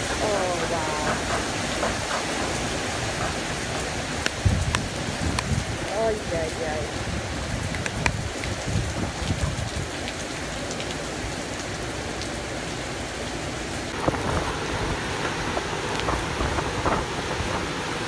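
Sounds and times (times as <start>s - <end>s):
heavy rain hissing: 0.0s - 18.0s
wind gusts: 0.0s - 18.0s.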